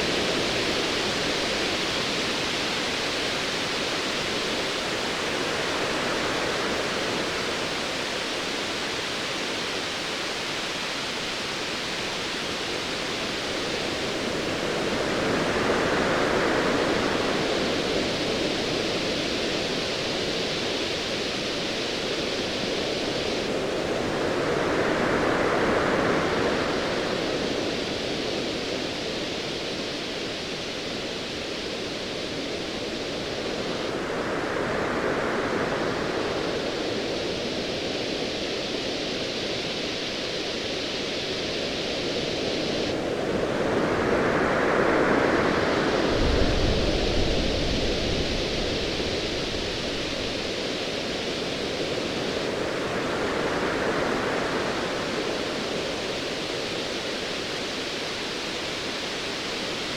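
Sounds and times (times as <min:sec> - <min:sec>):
hiss of surf: 0:00.0 - 0:59.9.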